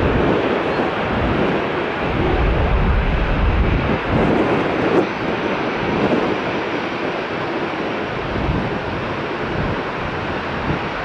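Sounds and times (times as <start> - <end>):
jet engines at takeoff thrust: 0.0 - 11.0
wind buffeting microphone: 0.0 - 11.0.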